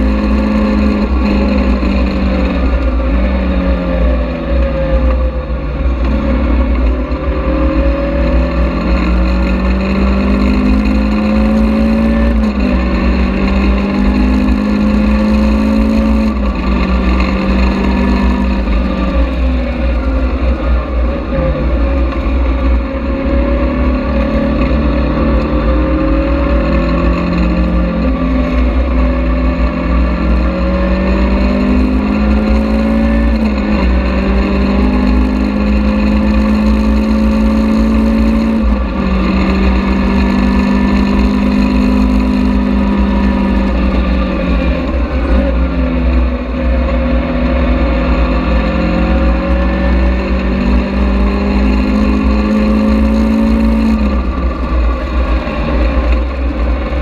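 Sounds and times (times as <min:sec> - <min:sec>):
car engine revving at speed: 0:00.0 - 0:57.0.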